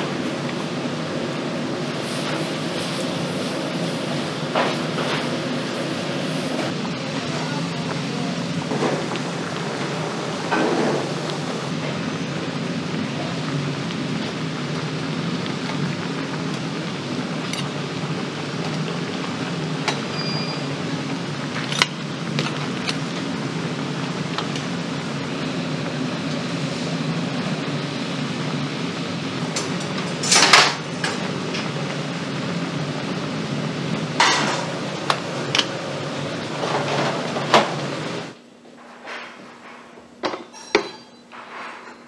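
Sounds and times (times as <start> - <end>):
broth boiling hard: 0.0 - 38.5.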